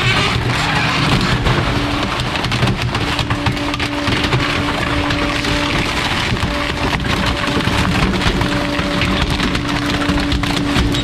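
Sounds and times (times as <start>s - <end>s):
wood cracking and splintering: 0.0s - 11.0s.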